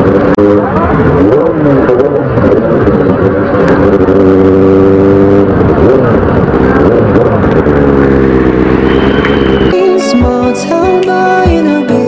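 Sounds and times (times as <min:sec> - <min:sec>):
motorcycle engine at road speed: 0:00.0 - 0:09.8.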